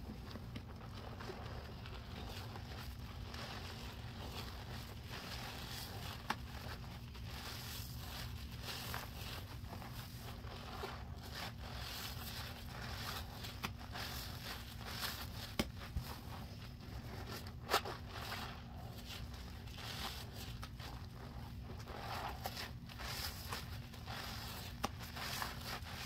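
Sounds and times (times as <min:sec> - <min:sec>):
sponge squelching in suds: 0:00.4 - 0:26.0.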